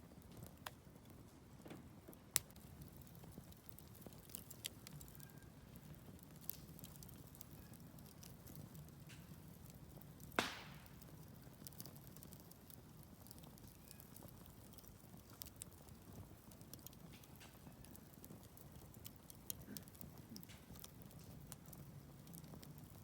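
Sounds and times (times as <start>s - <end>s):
campfire crackling: 0.0s - 23.0s
low steady hiss: 0.0s - 23.0s
fire pops and snaps: 0.1s - 23.0s.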